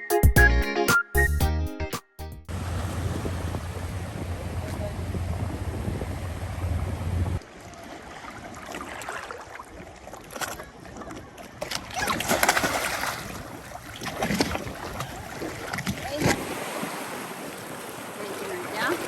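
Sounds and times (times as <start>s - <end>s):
water sloshing around boat: 2.5s - 19.0s.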